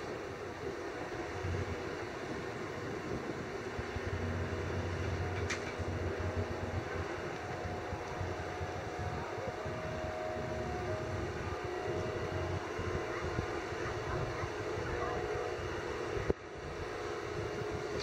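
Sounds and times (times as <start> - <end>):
excavator diesel rumble and whine: 0.0 - 18.0.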